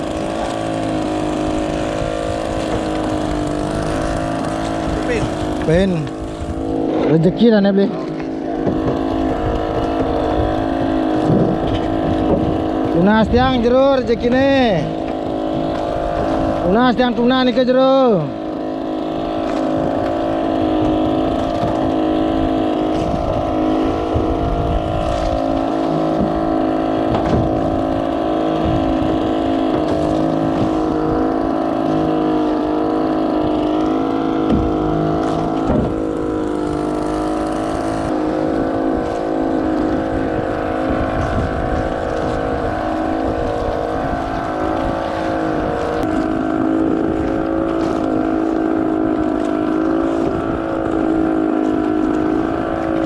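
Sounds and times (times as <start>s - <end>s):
low buffeting: 0.0s - 53.0s
small boat engine running: 0.0s - 53.0s.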